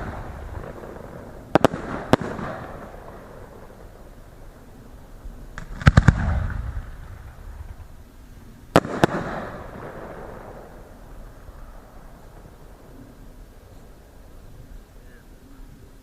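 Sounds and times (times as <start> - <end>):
fireworks exploding: 0.0 - 16.0
low rolling echo: 0.0 - 16.0.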